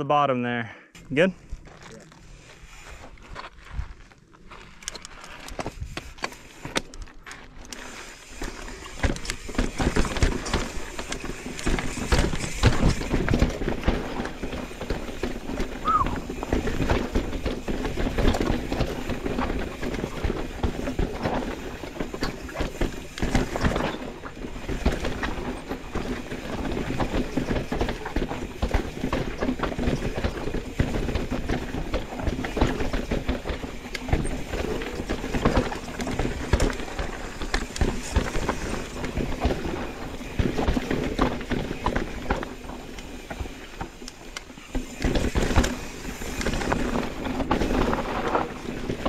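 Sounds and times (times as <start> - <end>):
bike tyres crunching over rock: 1.5 - 49.0
bike clattering and rattling: 1.6 - 49.0.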